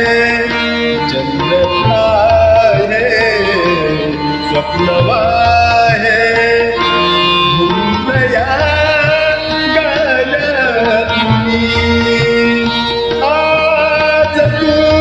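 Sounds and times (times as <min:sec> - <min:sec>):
ornamented melody line: 0:00.0 - 0:15.0.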